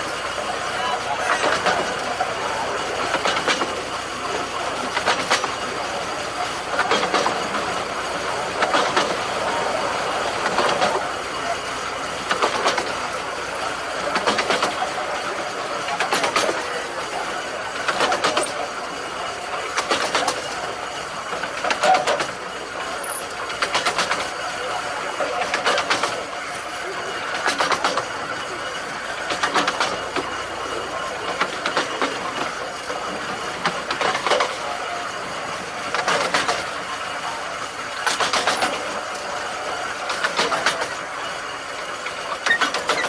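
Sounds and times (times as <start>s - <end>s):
train running noise: 0.0s - 43.0s
wheel clicks over rail joints: 0.0s - 43.0s.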